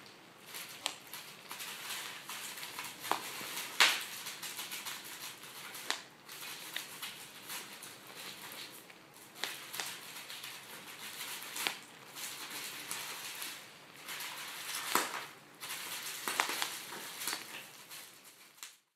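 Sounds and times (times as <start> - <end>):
bubble wrap crinkling: 0.0 - 18.9
bubble wrap popping: 0.0 - 18.9.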